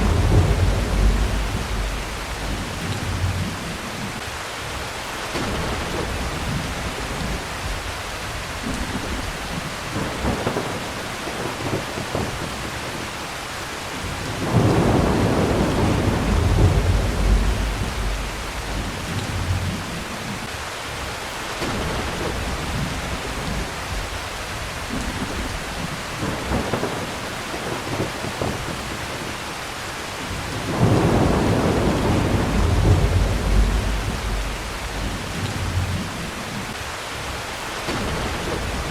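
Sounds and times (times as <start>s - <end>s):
thunder rolling: 0.0s - 4.2s, 5.3s - 13.0s, 14.0s - 20.5s, 21.6s - 29.2s, 30.3s - 36.8s
steady rain: 0.0s - 38.9s.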